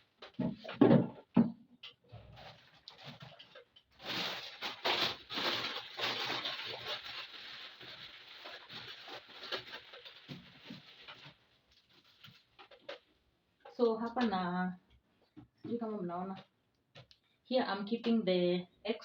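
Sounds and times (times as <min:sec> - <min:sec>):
household items and packaging rustling: 0:00.0 - 0:17.2.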